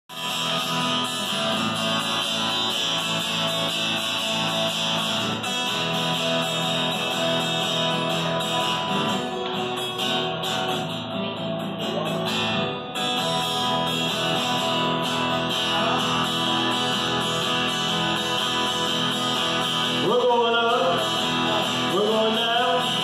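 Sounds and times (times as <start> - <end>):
acoustic guitar strumming: 0.1 - 23.0.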